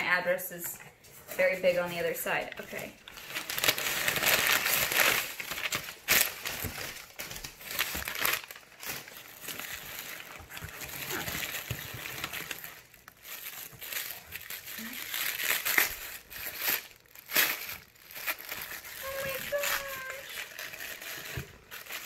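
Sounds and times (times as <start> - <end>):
packing paper crinkling and rustling: 1.1 - 22.0.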